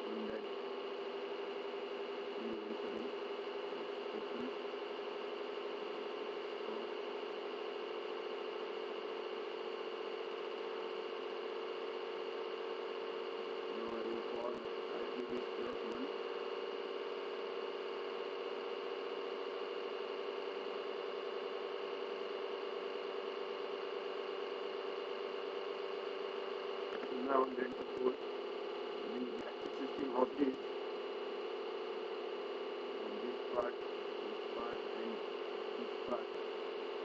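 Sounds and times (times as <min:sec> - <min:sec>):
electrical hum and hiss: 0:00.0 - 0:37.0.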